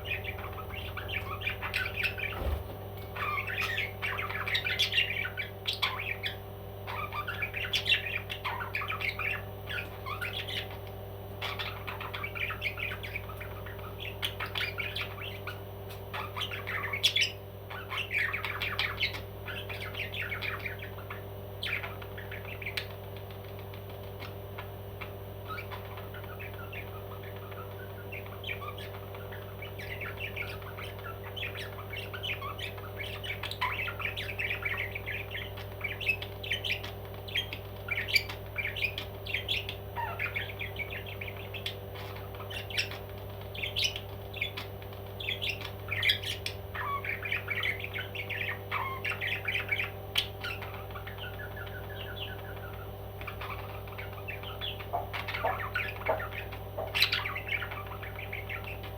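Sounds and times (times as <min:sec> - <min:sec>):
parrot squawking and chirping: 0:00.0 - 0:58.9
steady low hum: 0:00.0 - 0:58.9.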